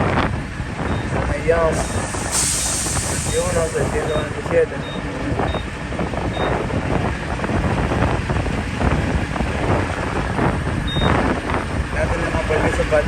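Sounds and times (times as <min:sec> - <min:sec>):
low vehicle rumble: 0:00.0 - 0:13.0
wind buffeting microphone: 0:00.0 - 0:13.0.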